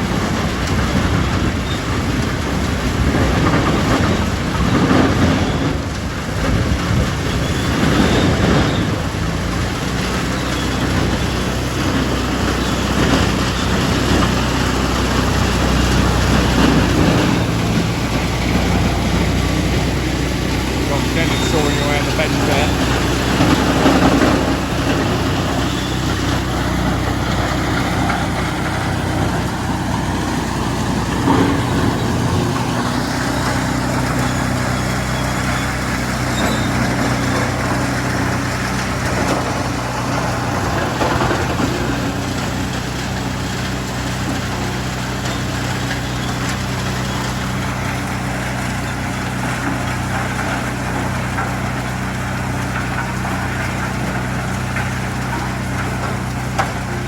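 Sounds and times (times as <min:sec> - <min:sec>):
tractor engine: 0:00.0 - 0:57.0
wood chipper chipping logs: 0:00.0 - 0:57.0.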